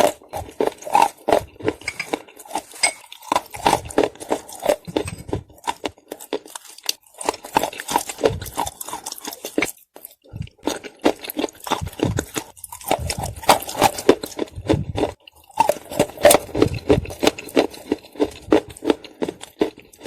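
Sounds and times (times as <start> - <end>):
crunching and chewing: 0.0 - 20.0.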